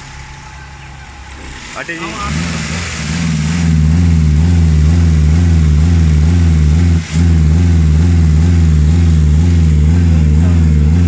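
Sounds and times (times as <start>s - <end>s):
car engine misfiring and hunting: 0.0s - 11.0s.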